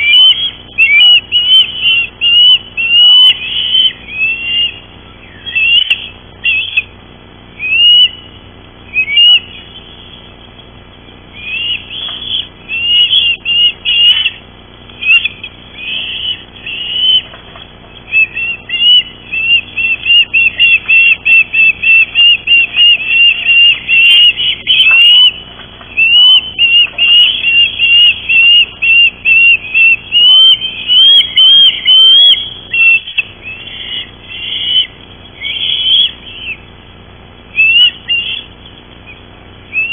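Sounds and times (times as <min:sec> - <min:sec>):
ospreys whistled chirps: 0:00.0 - 0:36.7, 0:37.5 - 0:39.9.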